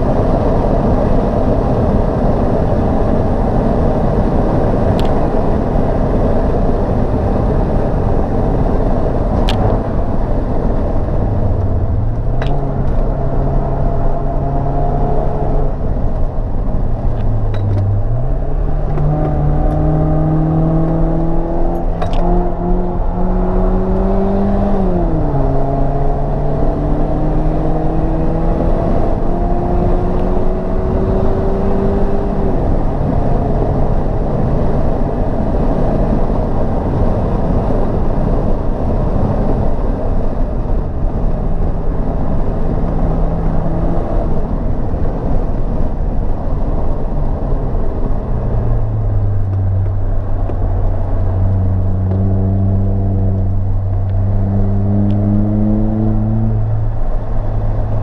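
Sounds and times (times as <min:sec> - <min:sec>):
car engine accelerating: 0:00.0 - 0:58.0
tyre road noise: 0:00.0 - 0:58.0
wind noise: 0:00.0 - 0:58.0.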